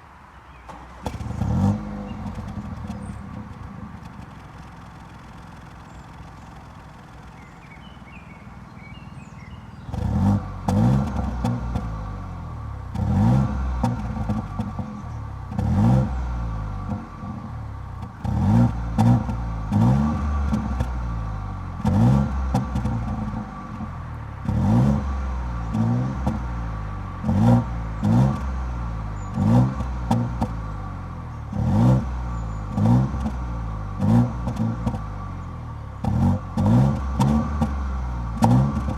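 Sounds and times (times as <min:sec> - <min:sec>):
car engine revving: 0:00.5 - 0:38.9
exhaust pops and crackles: 0:00.5 - 0:38.9.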